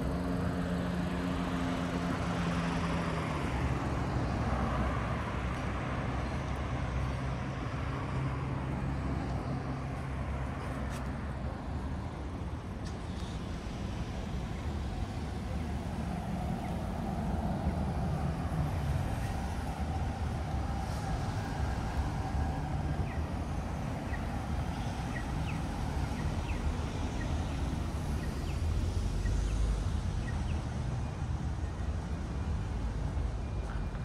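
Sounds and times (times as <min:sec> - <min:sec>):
traffic rumble: 0:00.0 - 0:34.0.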